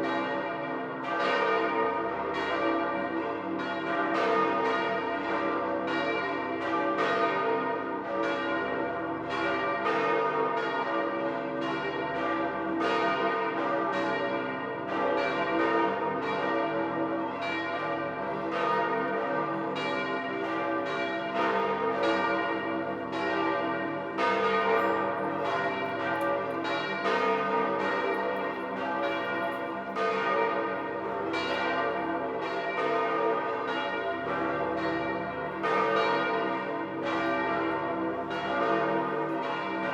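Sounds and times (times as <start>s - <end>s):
church bells ringing in full peal: 0.0s - 39.9s.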